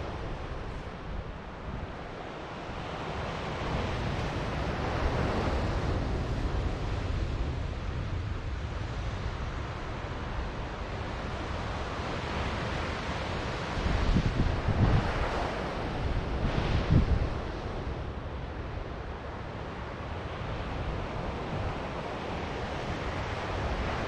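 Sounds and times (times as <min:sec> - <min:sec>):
ocean surf washing on shore: 0:00.0 - 0:24.0
wind buffeting microphone: 0:00.0 - 0:24.0.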